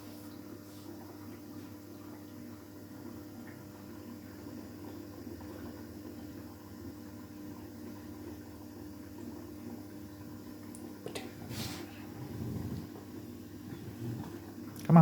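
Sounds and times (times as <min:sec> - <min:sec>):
running water: 0:00.0 - 0:15.0
washing machine humming: 0:00.0 - 0:15.0.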